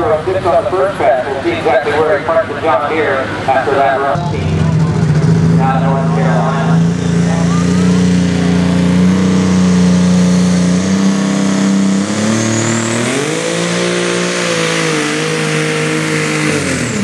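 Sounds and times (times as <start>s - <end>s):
pulling tractor engine running: 0.0s - 17.0s.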